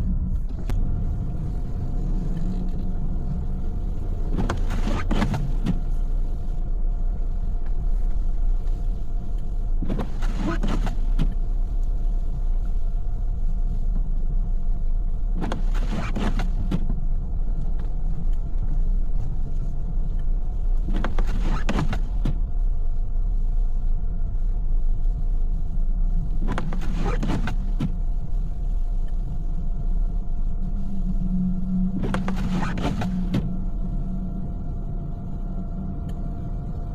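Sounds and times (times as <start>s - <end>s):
windshield wipers swishing: 0.0s - 34.1s
car road and engine rumble: 0.0s - 36.9s.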